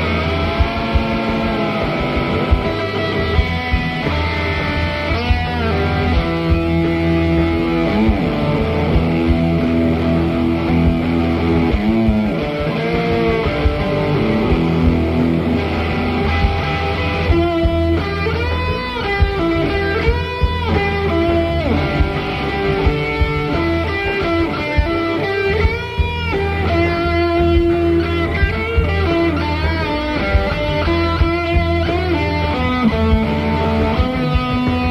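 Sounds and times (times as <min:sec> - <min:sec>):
fuzz electric guitar solo: 0:00.0 - 0:34.9
steady low backing: 0:00.0 - 0:34.9.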